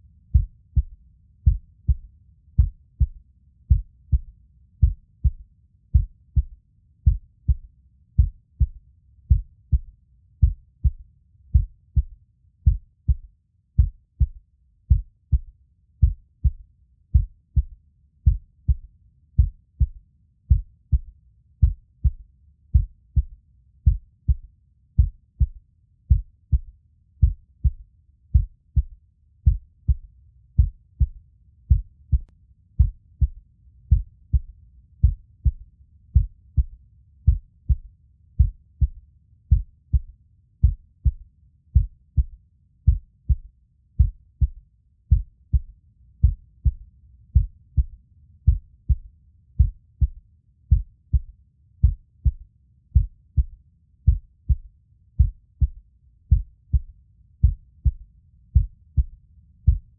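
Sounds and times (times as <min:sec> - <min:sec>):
heartbeat thumps: 0:00.3 - 0:41.2, 0:41.8 - 0:46.8, 0:47.4 - 0:52.4, 0:53.0 - 0:58.0, 0:58.6 - 0:59.9.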